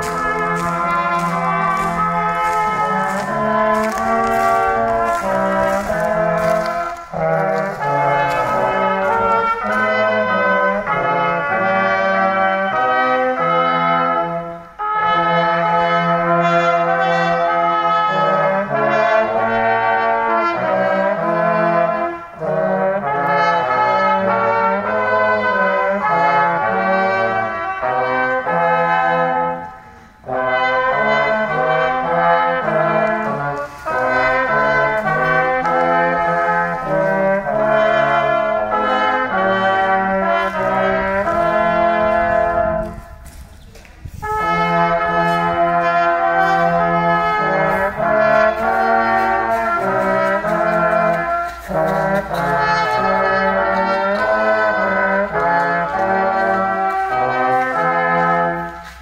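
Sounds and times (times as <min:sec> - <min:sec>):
brass choir playing: 0:00.0 - 0:43.4, 0:44.0 - 0:59.0.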